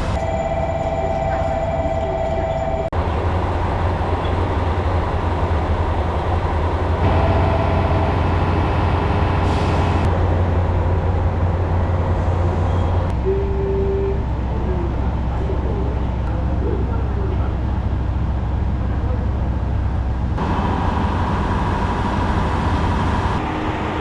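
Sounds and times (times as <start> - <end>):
diesel train rumble: 0.0 - 24.0.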